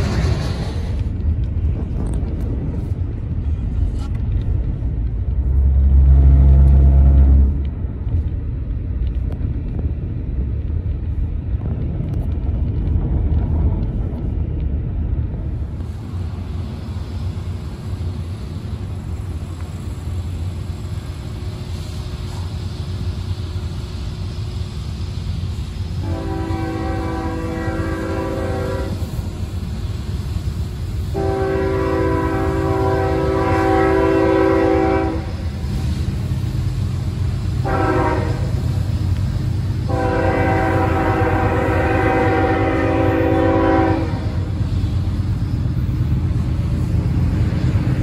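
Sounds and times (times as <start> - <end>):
car road rumble and hiss: 0.0 - 48.0.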